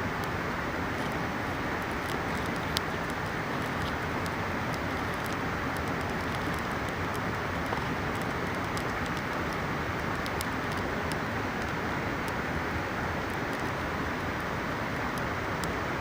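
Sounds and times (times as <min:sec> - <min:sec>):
campfire crackling and popping: 0:00.0 - 0:16.0
river rushing: 0:00.0 - 0:16.0.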